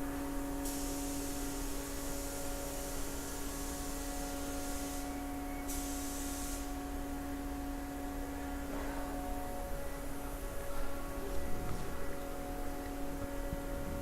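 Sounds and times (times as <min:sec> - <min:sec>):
machining center whine and hum: 0:00.0 - 0:14.0.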